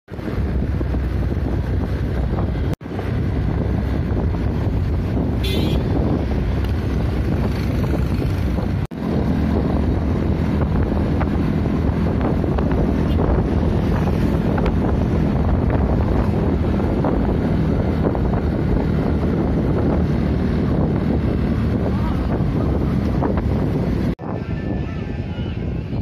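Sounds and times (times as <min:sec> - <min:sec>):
wind buffeting microphone: 0:00.1 - 0:26.0.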